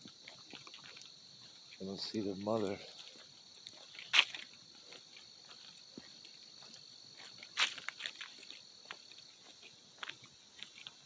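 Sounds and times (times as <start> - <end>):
footsteps in dry leaves: 0.0 - 11.0
high-pitched insect chorus: 0.0 - 11.0.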